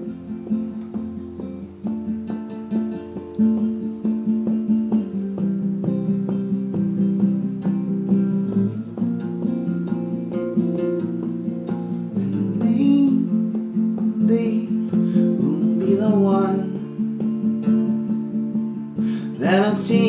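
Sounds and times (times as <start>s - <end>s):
guitar strumming chords: 0.0s - 20.0s.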